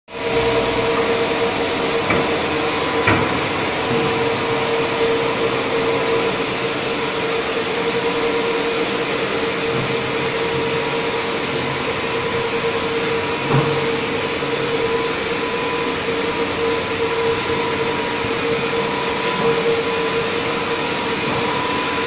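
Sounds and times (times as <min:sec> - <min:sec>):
machinery whirring: 0:00.1 - 0:22.0.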